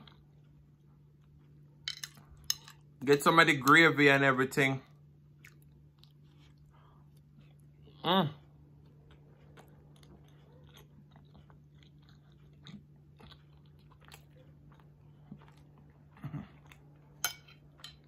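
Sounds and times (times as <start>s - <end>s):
wet chewing sounds: 0.0s - 2.9s, 4.8s - 18.0s
low steady hum: 0.0s - 18.0s.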